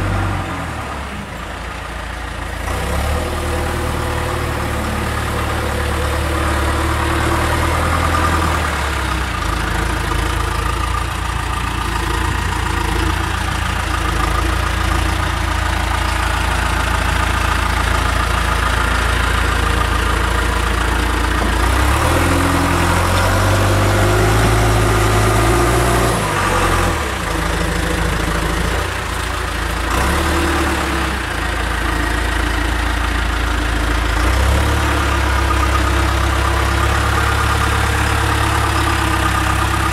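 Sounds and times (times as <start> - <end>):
backhoe loader engine running: 0.0 - 39.9.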